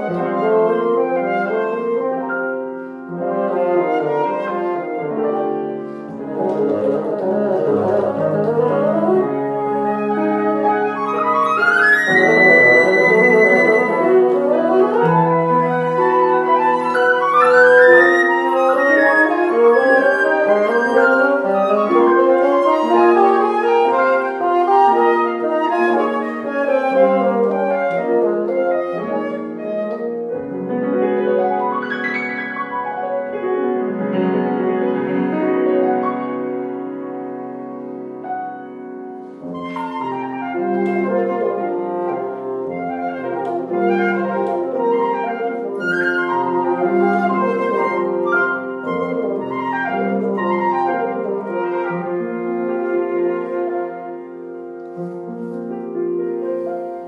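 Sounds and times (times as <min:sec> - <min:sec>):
flute bassoon and piano trio: 0:00.0 - 0:57.0.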